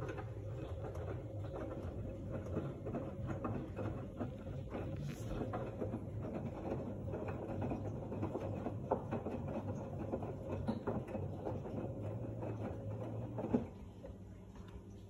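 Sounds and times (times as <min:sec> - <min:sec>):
washing machine motor hum: 0:00.0 - 0:15.0
wet laundry tumbling: 0:00.0 - 0:15.0.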